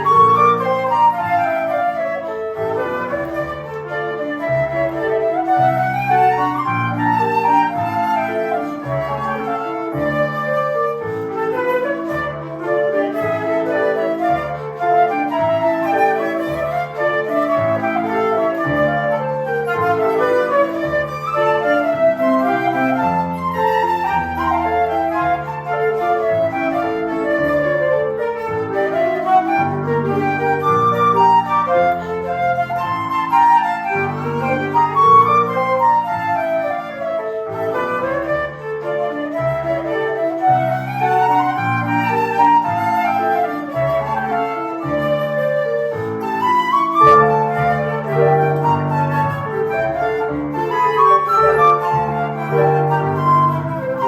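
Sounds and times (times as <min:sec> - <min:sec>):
low piano accompaniment: 0:00.0 - 0:54.0
two flutes playing a duet: 0:00.0 - 0:54.0.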